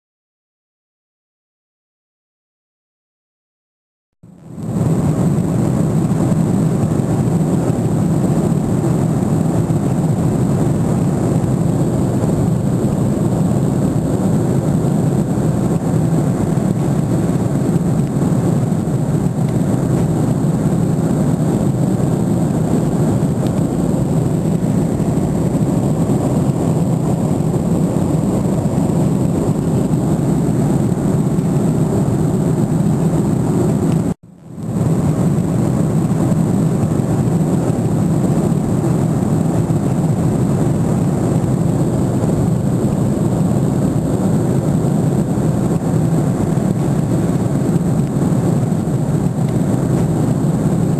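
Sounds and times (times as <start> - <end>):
high steady whine: 4.2 - 50.9
jet airliner cabin noise: 4.3 - 50.9.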